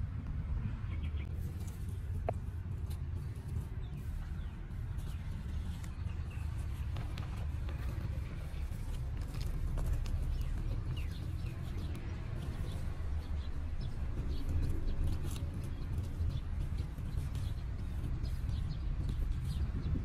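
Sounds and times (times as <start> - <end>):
hands scraping dry soil: 1.2 - 20.0.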